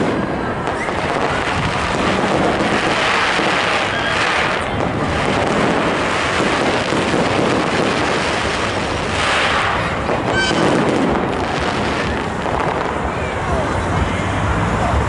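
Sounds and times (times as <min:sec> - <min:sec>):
firework whistle: 0:00.0 - 0:13.2
fireworks bursts and crackling: 0:00.0 - 0:15.0.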